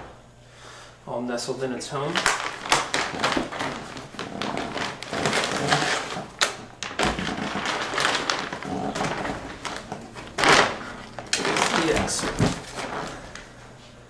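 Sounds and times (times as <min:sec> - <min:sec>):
plastic bag crinkling: 0:01.9 - 0:13.7.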